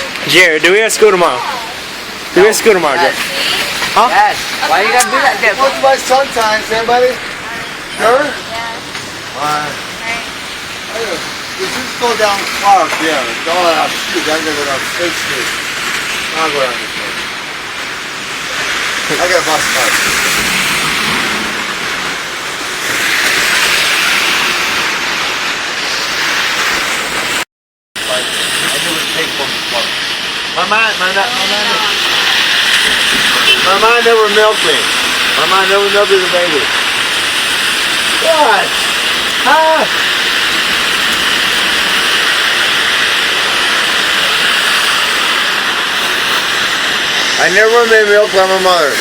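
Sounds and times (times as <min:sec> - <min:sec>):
storm noise hiss: 0:00.0 - 0:27.4, 0:28.0 - 0:49.0.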